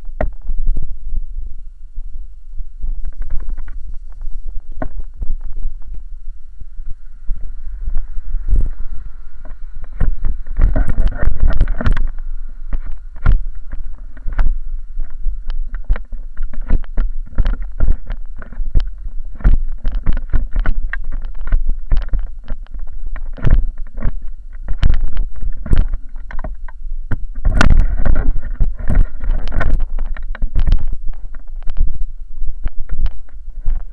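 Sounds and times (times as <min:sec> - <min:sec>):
skate wheels rumbling on asphalt: 0:00.0 - 0:33.9
wind on microphone: 0:00.0 - 0:33.9.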